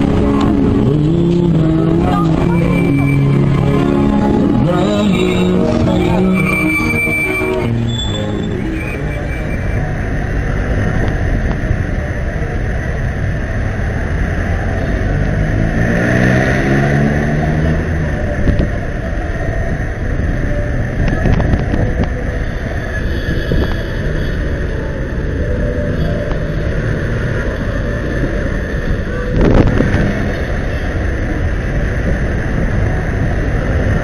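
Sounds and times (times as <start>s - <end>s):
heavy vehicle pulling away: 0.0s - 34.0s
road traffic rumble: 0.0s - 34.0s.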